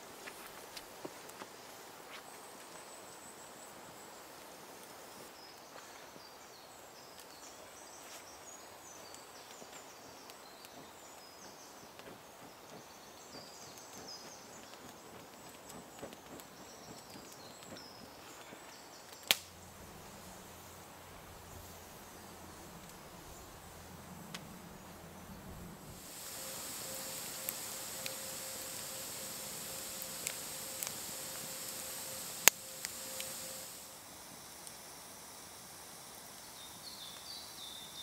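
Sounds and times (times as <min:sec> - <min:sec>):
birds singing faintly: 0:00.0 - 0:33.8, 0:36.2 - 0:38.0.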